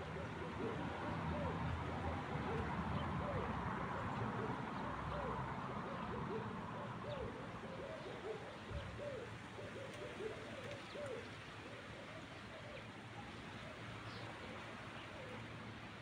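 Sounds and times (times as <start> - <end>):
dove cooing: 0.0 - 15.5.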